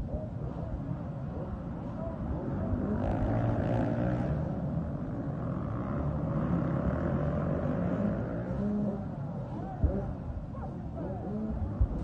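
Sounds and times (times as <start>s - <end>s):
dirt bike engines revving: 0.4s - 10.4s.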